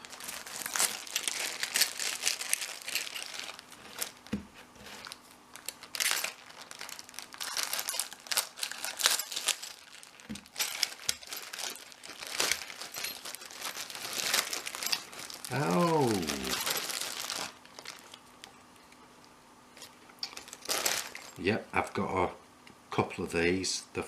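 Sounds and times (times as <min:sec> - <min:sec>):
packaging crinkling and rustling: 0:00.0 - 0:18.7, 0:19.8 - 0:21.4.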